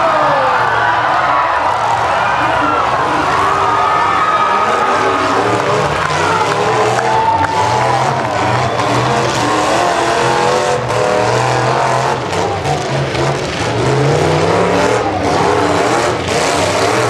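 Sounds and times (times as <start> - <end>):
truck engines revving hard: 0.0 - 17.0.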